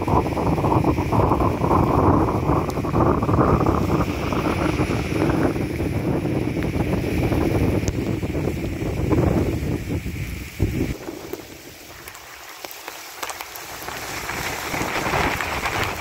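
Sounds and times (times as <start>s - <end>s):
rain hissing: 0.0s - 16.0s
wind buffeting microphone: 0.0s - 16.0s
wind gusting through trees: 0.0s - 16.0s.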